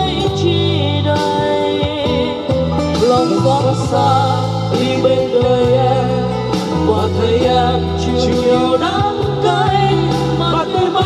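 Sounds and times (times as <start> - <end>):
karaoke ballad music: 0.0 - 11.0
person singing: 0.0 - 11.0.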